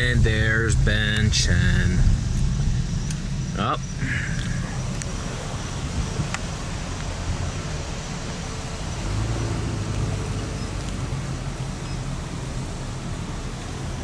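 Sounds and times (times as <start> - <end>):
car engine humming: 0.0 - 14.0
road noise: 0.0 - 14.0.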